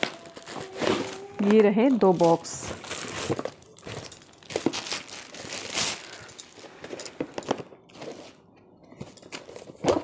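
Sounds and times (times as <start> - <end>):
plastic wrap crinkling: 0.0 - 8.4.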